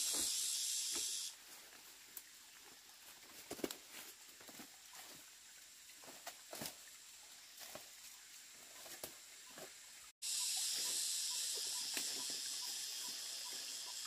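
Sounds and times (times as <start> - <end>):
forest insects droning: 0.0 - 1.5, 2.8 - 14.0.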